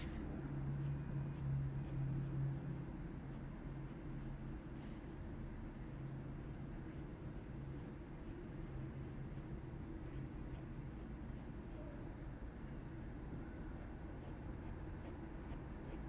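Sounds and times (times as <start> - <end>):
coloured pencil scratching on card: 0.0 - 5.3, 5.9 - 11.9, 13.8 - 16.0
steady low hum: 0.0 - 16.0.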